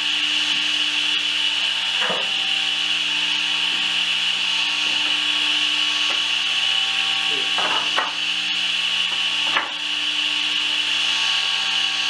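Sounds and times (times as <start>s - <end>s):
power tool hissing and whining: 0.0s - 12.0s.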